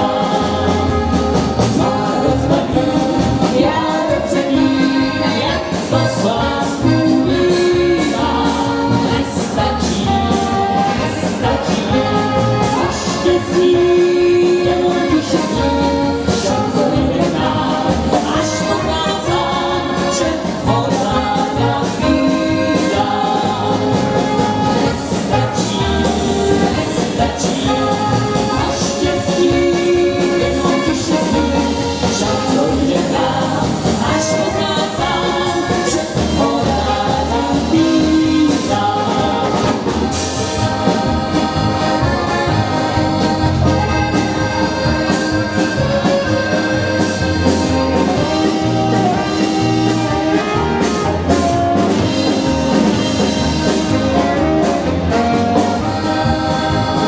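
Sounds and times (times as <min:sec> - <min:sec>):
accordion: 0:00.0 - 0:57.0
drum kit: 0:00.0 - 0:57.0
person singing: 0:00.0 - 0:57.0
saxophones: 0:00.0 - 0:57.0.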